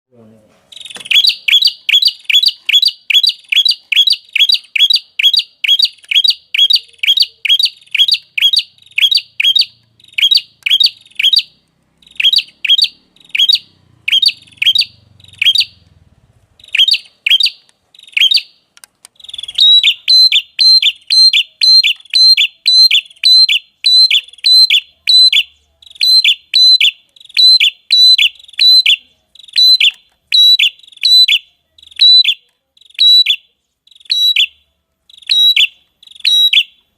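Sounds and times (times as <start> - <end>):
songbird chirping: 0.6 - 36.9.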